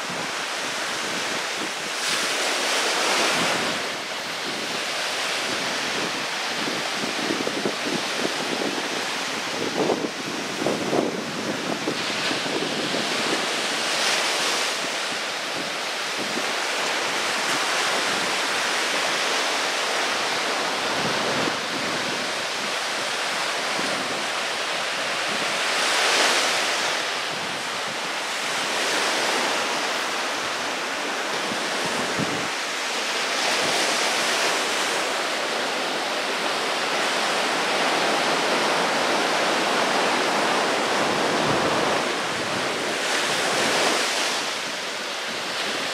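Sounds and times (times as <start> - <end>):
small waves washing up a beach: 0.0 - 45.9.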